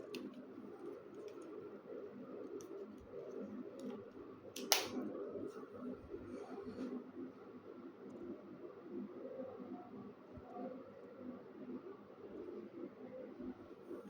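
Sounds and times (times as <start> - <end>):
air conditioner whirring: 0.0 - 14.0.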